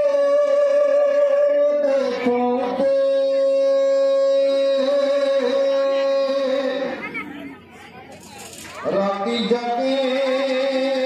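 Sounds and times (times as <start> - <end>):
person singing: 0.0 - 7.0, 8.8 - 11.0.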